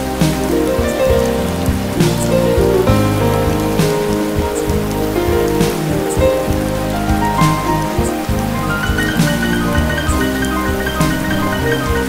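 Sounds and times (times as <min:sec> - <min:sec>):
drops splattering: 0:00.0 - 0:12.0
rain on a wet hard surface: 0:00.0 - 0:12.0
soft background music: 0:00.0 - 0:12.0.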